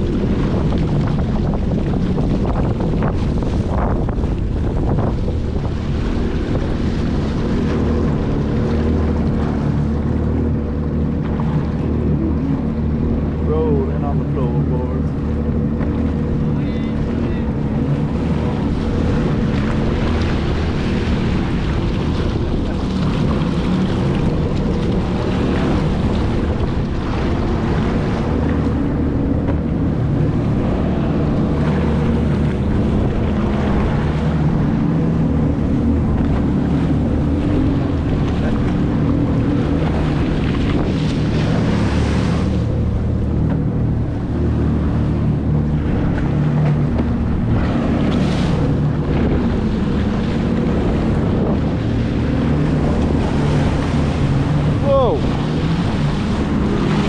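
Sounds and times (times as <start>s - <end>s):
jet ski engine running: 0.0s - 57.0s
water rushing and spraying: 0.0s - 57.0s
wind buffeting microphone: 0.0s - 57.0s.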